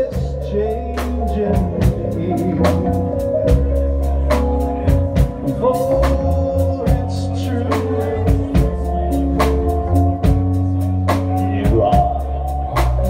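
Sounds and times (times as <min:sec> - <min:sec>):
bending melody line: 0:00.0 - 0:13.0
drum kit beat: 0:00.0 - 0:13.0
electric bass guitar: 0:00.0 - 0:13.0
keyboards: 0:00.0 - 0:13.0.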